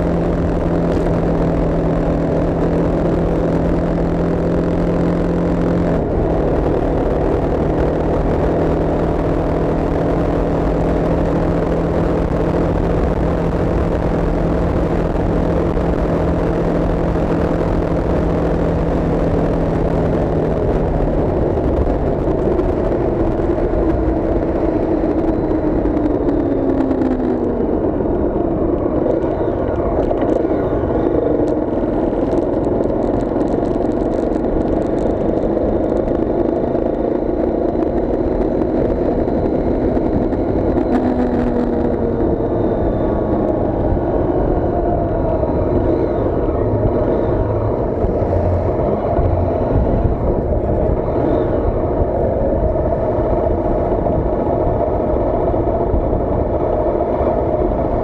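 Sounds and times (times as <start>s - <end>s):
tyres on road: 0.0s - 58.0s
vehicle engine: 0.0s - 58.0s.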